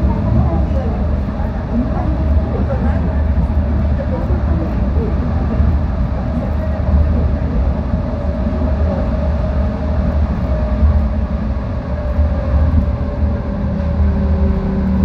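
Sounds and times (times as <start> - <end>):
metro train rumbling in tunnel: 0.0 - 15.0.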